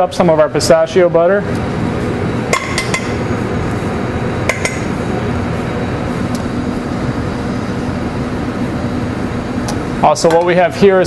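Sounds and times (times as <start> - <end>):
ventilation hum and hiss: 0.0 - 11.0.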